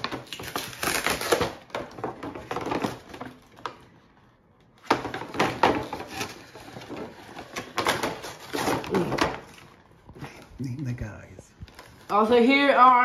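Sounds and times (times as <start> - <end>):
plastic and cardboard rustling: 0.0 - 13.0.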